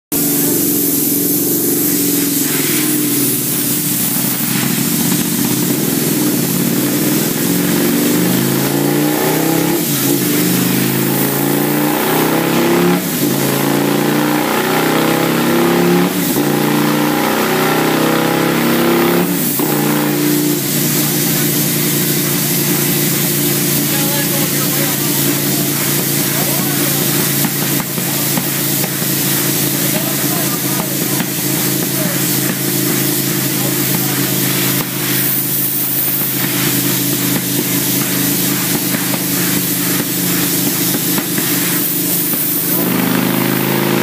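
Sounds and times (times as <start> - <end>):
motorcycle engine revving: 0.1 - 44.0.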